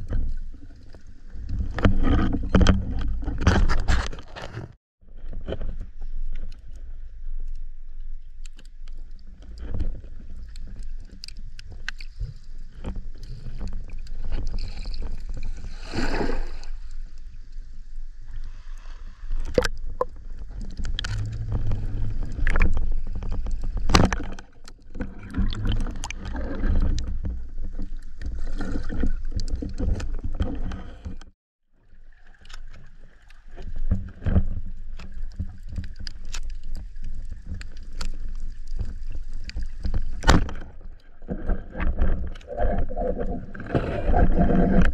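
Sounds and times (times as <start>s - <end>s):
muffled underwater rumble and sloshing: 0.0s - 44.9s.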